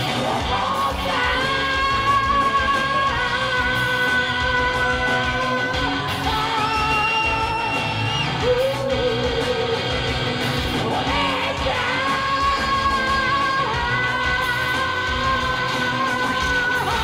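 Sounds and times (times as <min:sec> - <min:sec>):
person singing and yelling: 0:00.0 - 0:17.0
rock music: 0:00.0 - 0:17.0.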